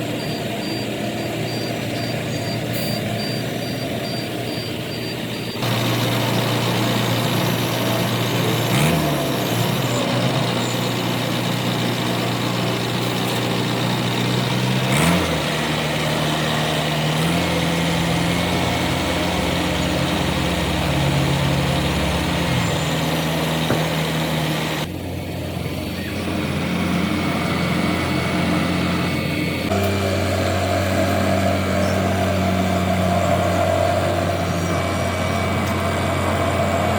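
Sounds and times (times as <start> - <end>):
heavy machinery engines running: 0.0 - 36.9.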